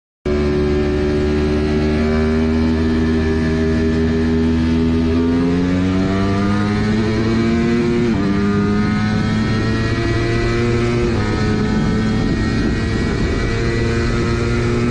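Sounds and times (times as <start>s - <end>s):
motorcycle engine accelerating: 0.3s - 14.9s.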